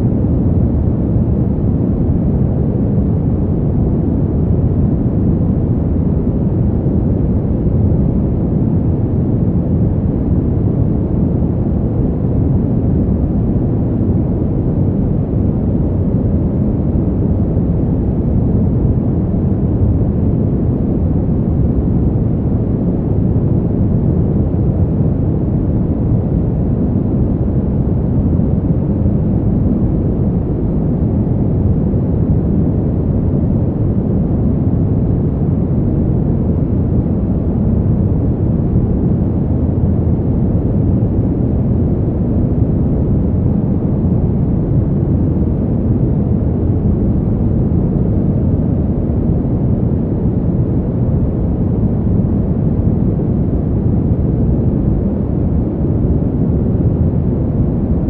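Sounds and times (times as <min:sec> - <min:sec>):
low steady wind: 0:00.0 - 0:58.0.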